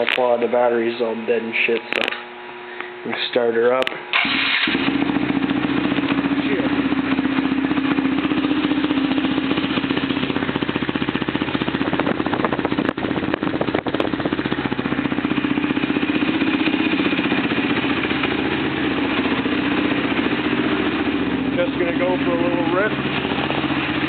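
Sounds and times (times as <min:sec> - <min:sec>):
quad engine idling: 0:04.2 - 0:24.0.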